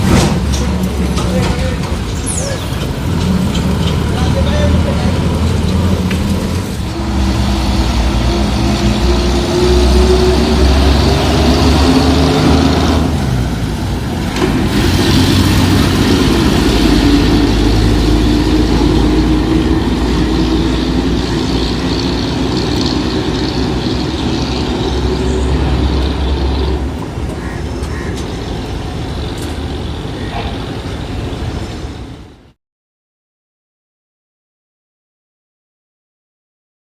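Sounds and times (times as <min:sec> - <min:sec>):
truck engine pulling under load: 0:00.0 - 0:32.4.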